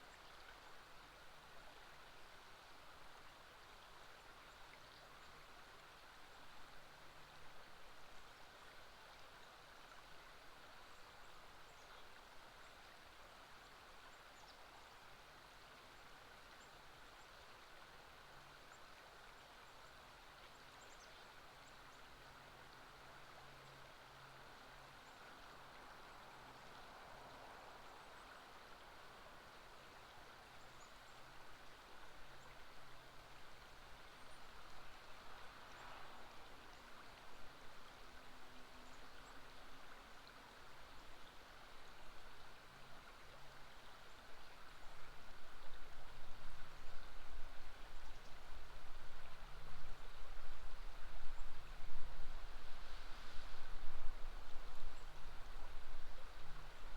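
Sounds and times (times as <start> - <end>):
flowing river water: 0.0 - 56.9.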